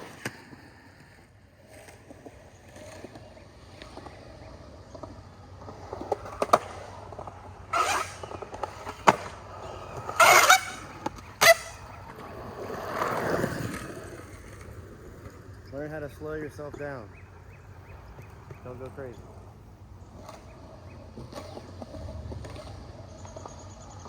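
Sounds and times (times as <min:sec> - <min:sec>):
rough skateboard scraping: 0:00.0 - 0:24.0
skateboard clacking on ground: 0:00.0 - 0:24.0
skateboard wheels rolling on concrete: 0:00.0 - 0:24.0.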